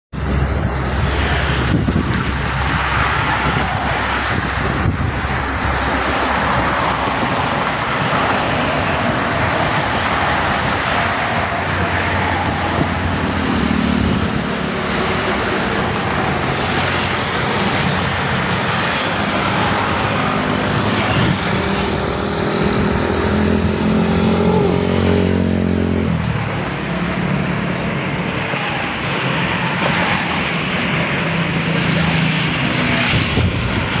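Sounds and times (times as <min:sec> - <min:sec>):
road traffic noise: 0:00.1 - 0:34.0.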